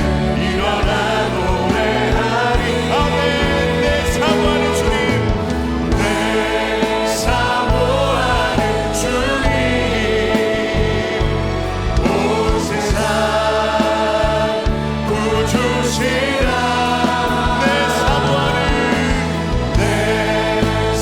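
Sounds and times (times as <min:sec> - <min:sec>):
band accompaniment: 0:00.0 - 0:21.0
group singing praise song: 0:00.0 - 0:21.0.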